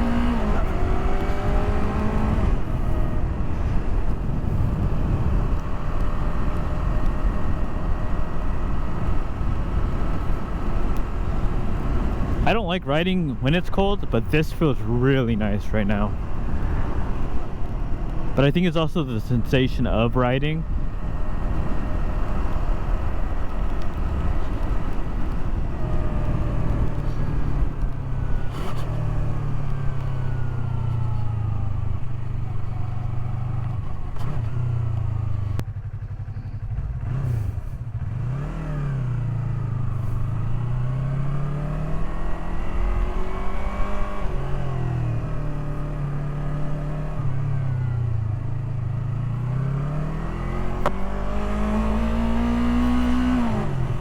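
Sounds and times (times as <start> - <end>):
motorcycle engine revving: 0.0 - 18.5, 19.9 - 54.0.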